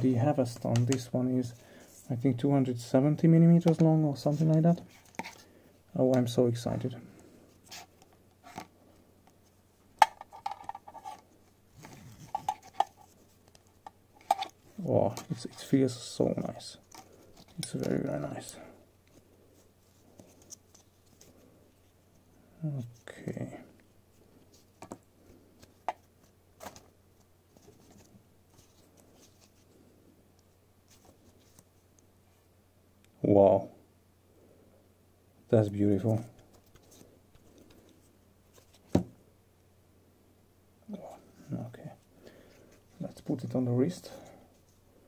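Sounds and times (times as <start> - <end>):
soft handling rustle: 0.0 - 32.6, 35.5 - 39.2, 40.9 - 45.0.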